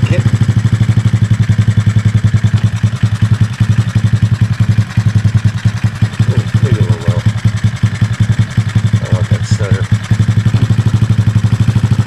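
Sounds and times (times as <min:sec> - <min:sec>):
small motorbike engine idling: 0:00.0 - 0:12.0.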